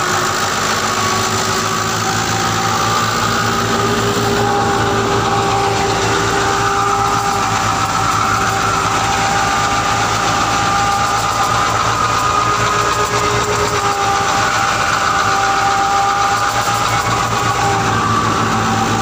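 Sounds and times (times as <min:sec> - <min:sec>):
tractor engine running under load: 0:00.0 - 0:19.0
whining tones: 0:00.0 - 0:19.0.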